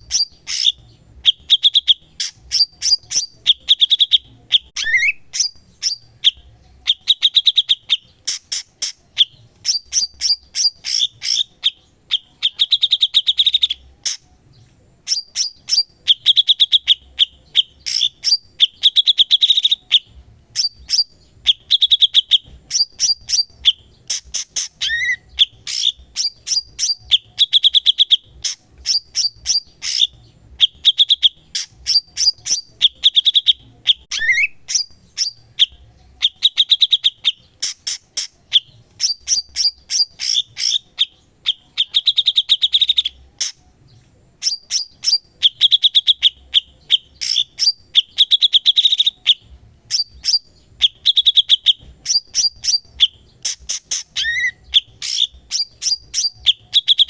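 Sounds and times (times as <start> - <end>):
bird singing chips and trills: 0.0 - 57.0.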